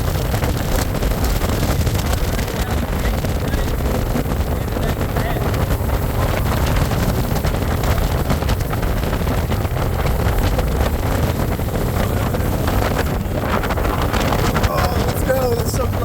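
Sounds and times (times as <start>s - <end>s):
motorboat engine rumble: 0.0s - 16.0s
water noise: 0.0s - 16.0s
wind buffeting microphone: 0.0s - 16.0s.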